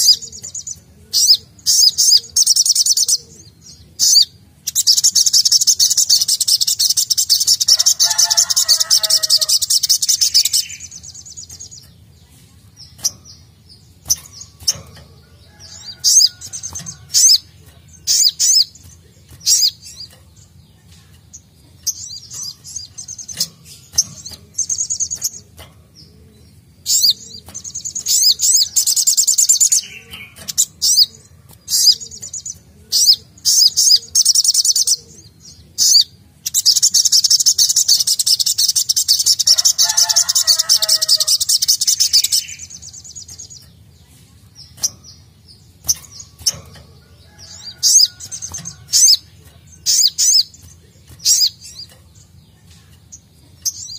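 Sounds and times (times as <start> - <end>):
bird trilling song: 0.0 - 53.9.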